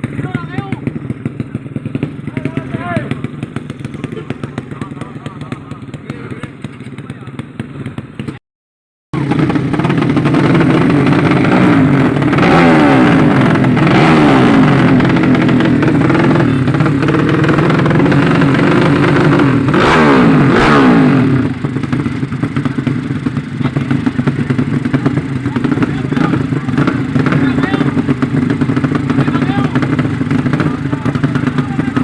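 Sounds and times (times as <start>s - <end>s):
motorcycle engines revving: 0.0s - 8.4s, 9.2s - 32.0s.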